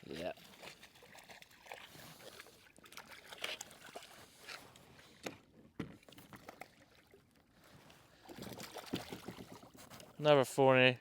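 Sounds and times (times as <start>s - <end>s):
water sloshing against kayak: 0.0s - 10.3s.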